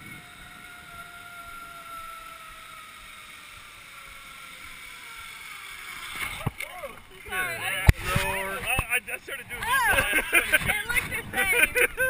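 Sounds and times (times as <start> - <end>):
zip line pulleys whirring: 0.0 - 12.0.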